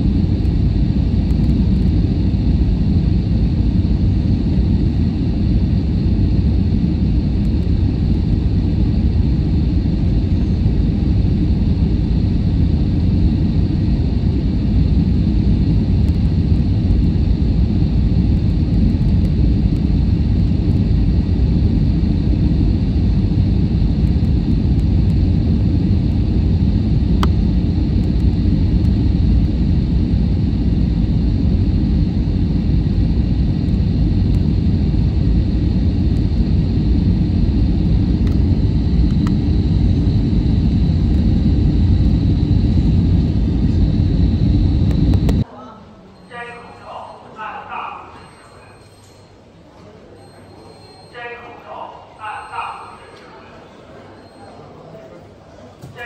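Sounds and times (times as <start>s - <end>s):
airliner cabin engine rumble: 0.0s - 45.5s
faint high whine: 0.0s - 49.4s, 50.0s - 56.0s.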